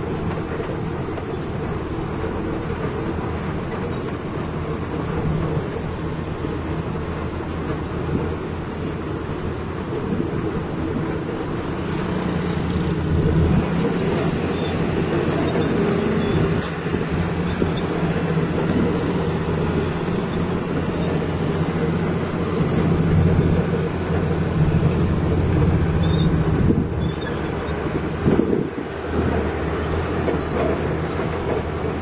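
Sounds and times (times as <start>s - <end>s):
road and body rumble: 0.0s - 32.0s
truck engine droning: 0.0s - 32.0s.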